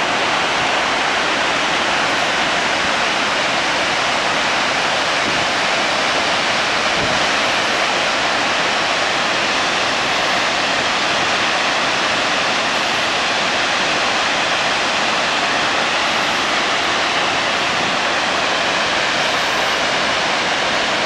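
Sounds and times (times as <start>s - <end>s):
dam water discharge rushing: 0.0s - 21.0s.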